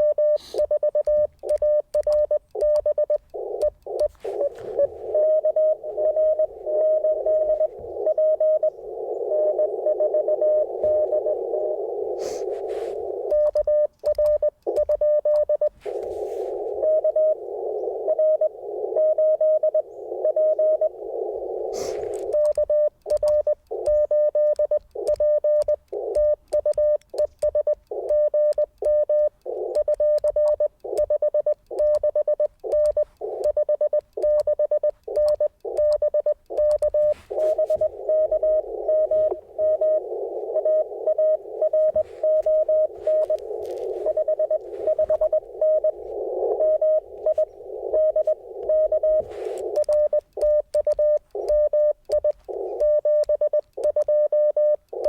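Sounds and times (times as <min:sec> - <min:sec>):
static hiss: 0:00.0 - 0:01.5, 0:03.2 - 0:14.8, 0:15.7 - 0:19.0, 0:19.6 - 0:25.2, 0:30.7 - 0:53.9
morse code tone: 0:00.0 - 0:55.0.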